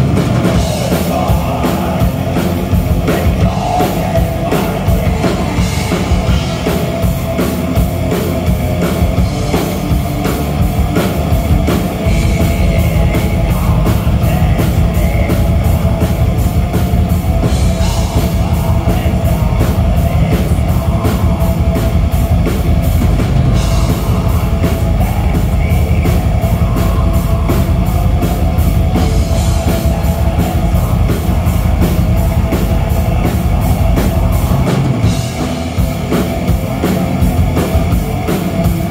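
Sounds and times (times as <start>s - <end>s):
distorted electric guitars: 0.0s - 38.9s
fast drumming: 0.0s - 38.9s.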